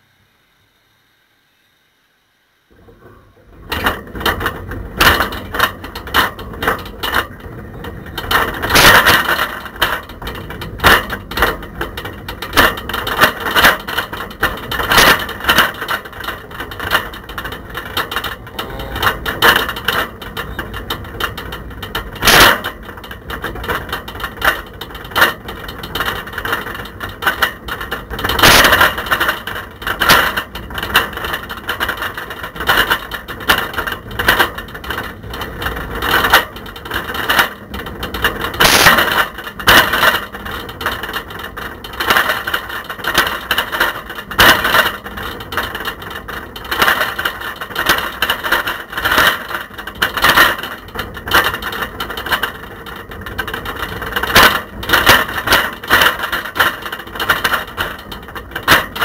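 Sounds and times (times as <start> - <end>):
camera rattling in bike basket: 3.6 - 59.0.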